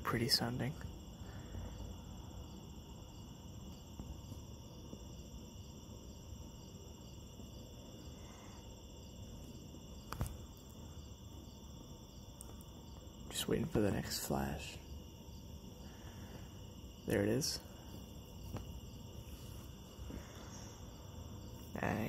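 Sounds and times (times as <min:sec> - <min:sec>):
crickets and insects trilling: 0:00.0 - 0:22.0.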